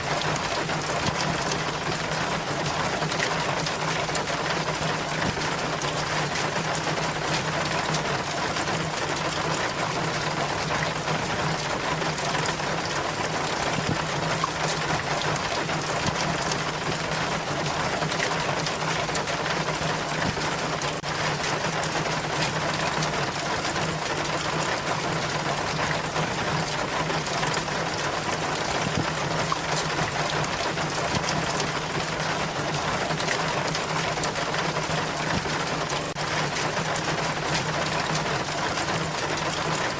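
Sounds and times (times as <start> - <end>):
rainwater splashing down rain chain: 0.0 - 39.9.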